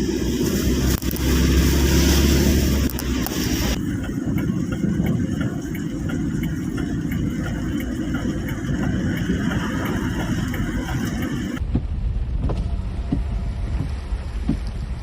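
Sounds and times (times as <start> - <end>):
heavy rain pouring: 0.0 - 15.0
wind rumble on microphone: 0.0 - 15.0.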